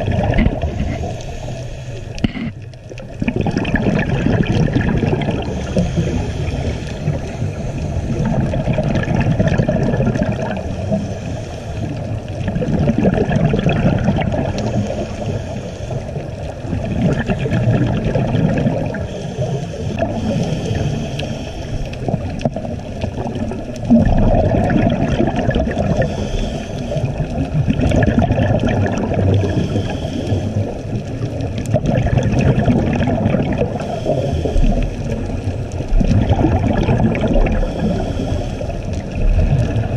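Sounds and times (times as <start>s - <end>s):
underwater air bubbling: 0.0s - 39.9s.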